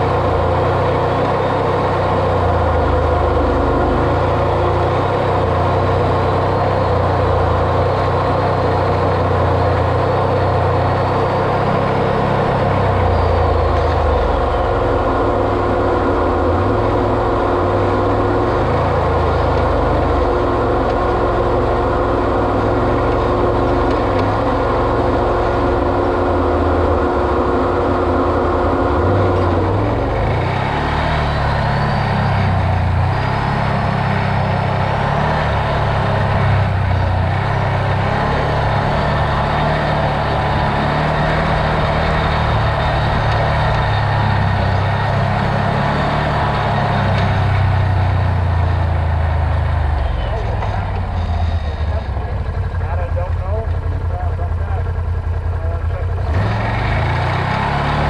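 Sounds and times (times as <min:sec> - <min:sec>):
engine whine: 0:00.0 - 0:58.0
off-road vehicle engine rumble: 0:00.0 - 0:58.0.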